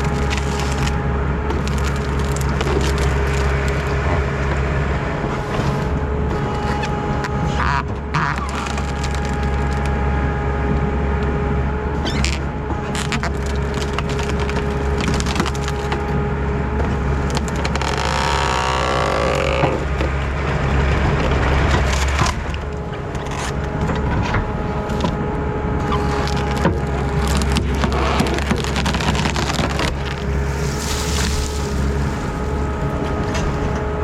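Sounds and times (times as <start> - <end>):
tree shear crushing trunk: 0.0 - 10.2, 12.1 - 34.0
wood cracking and splintering: 0.0 - 10.2, 12.0 - 34.0
diesel engine running: 0.0 - 34.0.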